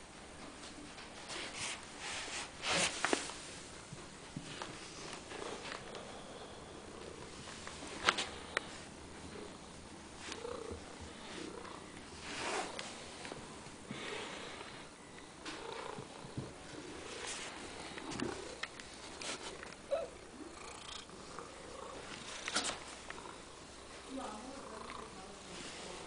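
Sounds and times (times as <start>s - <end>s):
cat purring: 4.7s - 26.0s.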